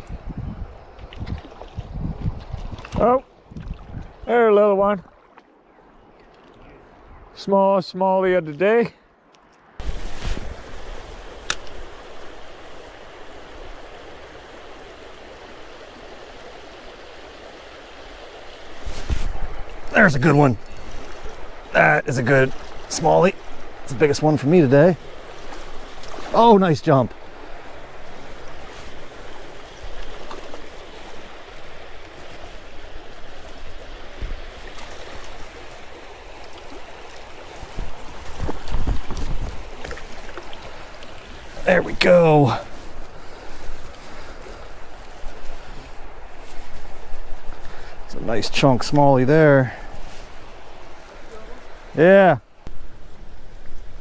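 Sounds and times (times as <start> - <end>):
creek water running: 0.0 - 54.0.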